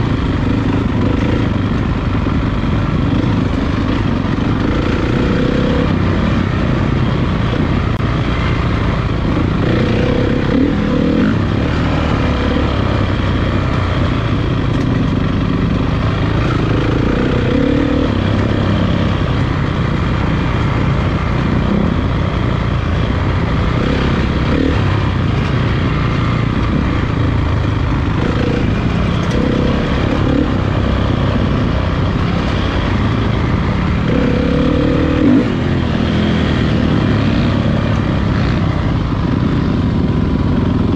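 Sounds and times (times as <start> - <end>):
motorcycle engines revving: 0.0 - 40.9.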